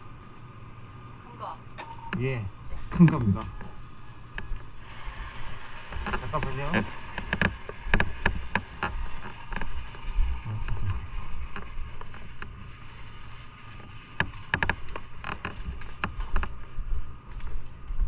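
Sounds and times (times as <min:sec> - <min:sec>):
low rumble: 0:02.5 - 0:18.0
footsteps: 0:02.7 - 0:18.0.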